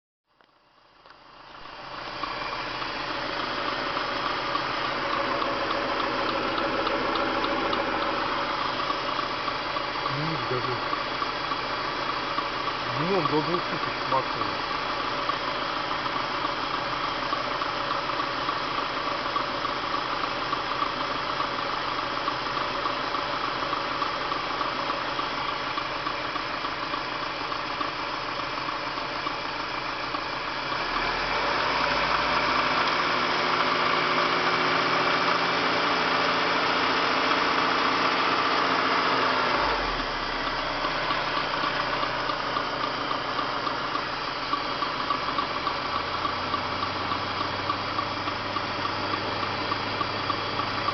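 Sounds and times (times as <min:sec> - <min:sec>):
car engine knocking and revving: 0:00.4 - 0:50.9.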